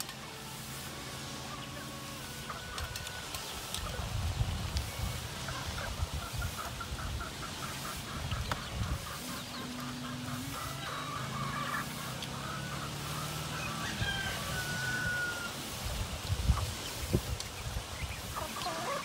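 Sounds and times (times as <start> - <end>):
chicken clucking: 1.1 - 19.0.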